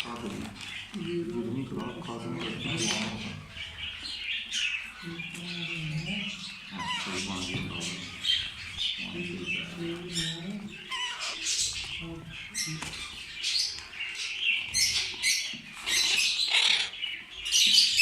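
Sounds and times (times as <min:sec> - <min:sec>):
small birds chirping and squawking: 0:00.0 - 0:18.0.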